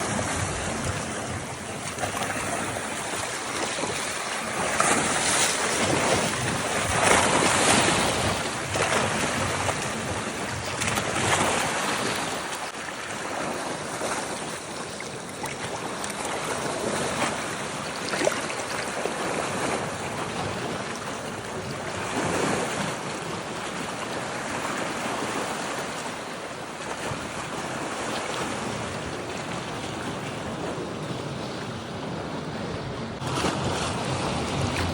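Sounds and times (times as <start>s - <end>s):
waves washing onto shore: 0.0s - 34.9s
wind on microphone: 0.0s - 34.9s.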